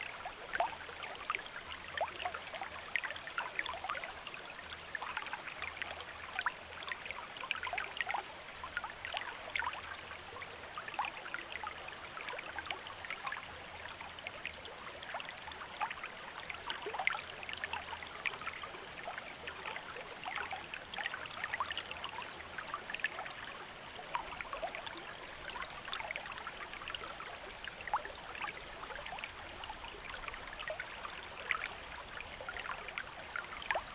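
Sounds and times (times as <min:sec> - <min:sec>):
small stream trickling: 0:00.0 - 0:33.9.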